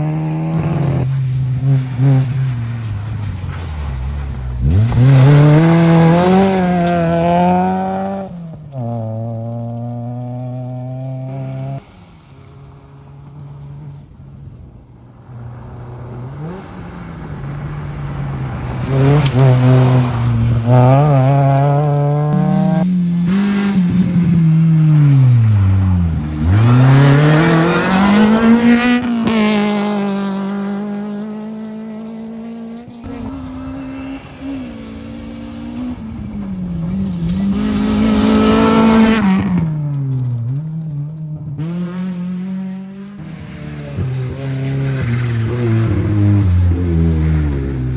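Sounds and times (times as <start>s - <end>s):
rally car engine revving: 0.0s - 12.2s, 15.5s - 47.9s.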